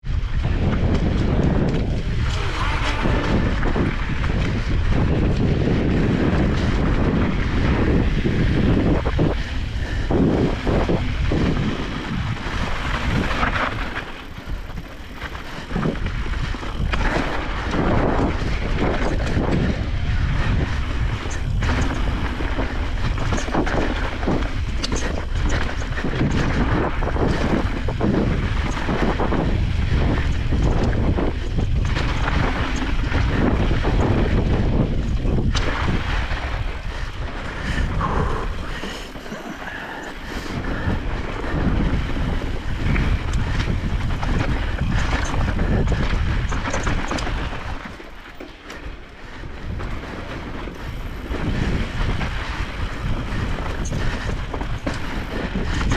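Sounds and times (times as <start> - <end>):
low rumble of bike ride: 0.0 - 55.9
wind buffeting microphone: 0.0 - 55.9.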